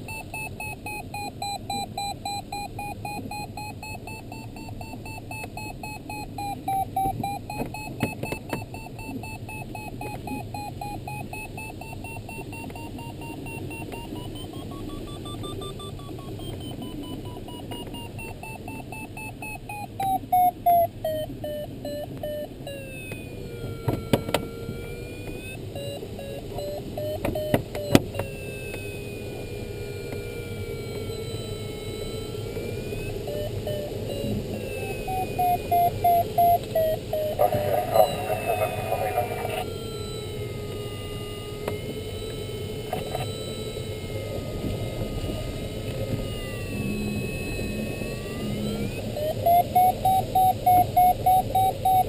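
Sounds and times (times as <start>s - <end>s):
steady low variometer tone: 0.0s - 52.0s
variometer beeping: 0.0s - 52.0s.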